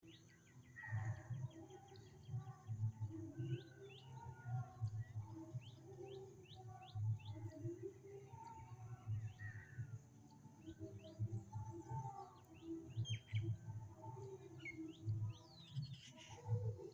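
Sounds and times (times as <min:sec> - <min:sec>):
birds chirping and warbling: 0:00.0 - 0:16.9.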